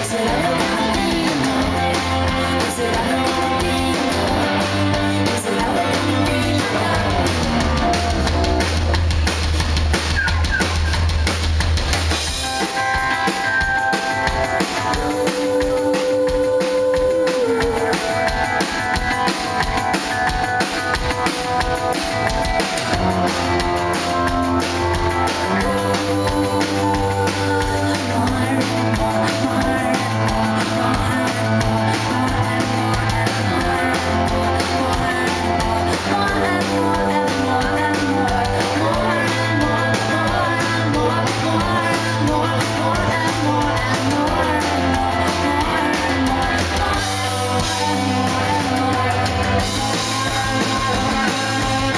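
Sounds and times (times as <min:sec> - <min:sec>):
low bass notes: 0:00.0 - 0:12.6, 0:22.0 - 0:51.9
rock band playing: 0:00.0 - 0:51.9.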